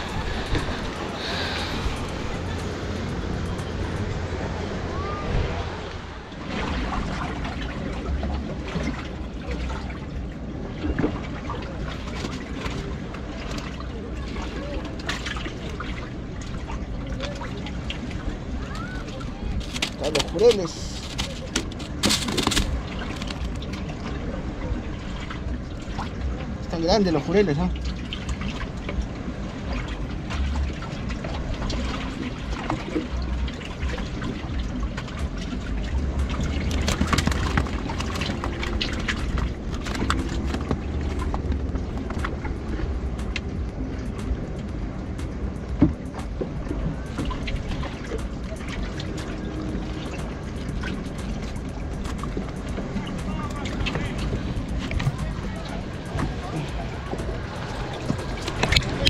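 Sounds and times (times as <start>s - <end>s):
steady low rumble: 0.0s - 59.0s
water lapping against boat hull: 0.0s - 59.0s.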